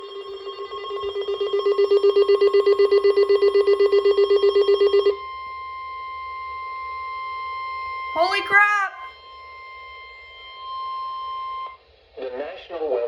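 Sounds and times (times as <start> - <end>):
steady high tone: 0.0 - 11.8.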